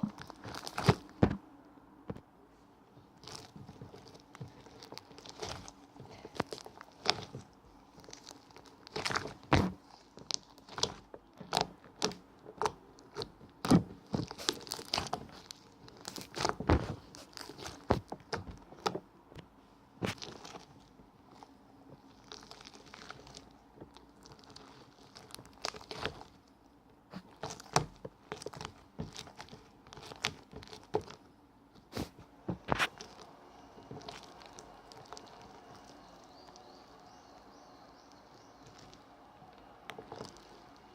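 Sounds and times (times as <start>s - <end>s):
crinkling and crunching: 0.0s - 1.4s, 2.9s - 40.9s.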